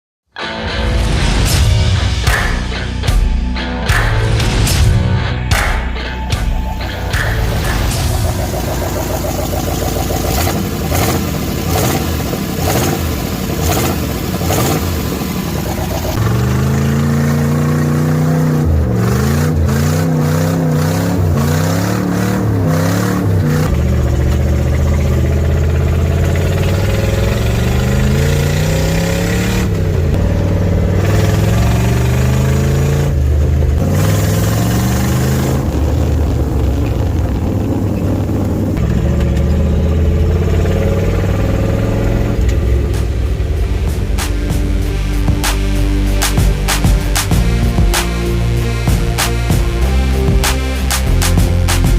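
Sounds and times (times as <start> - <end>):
engine revving: 0.4 - 3.2, 3.8 - 51.9.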